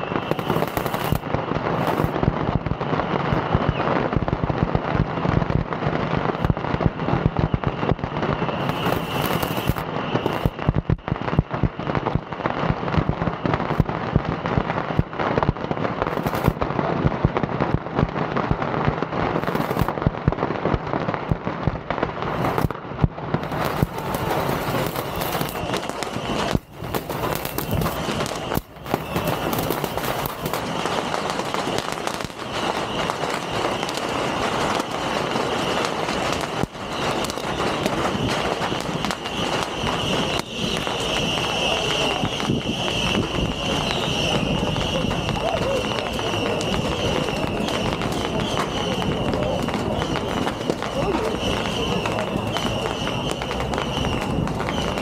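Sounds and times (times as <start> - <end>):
fireworks rapid crackling bangs: 0.0 - 55.0.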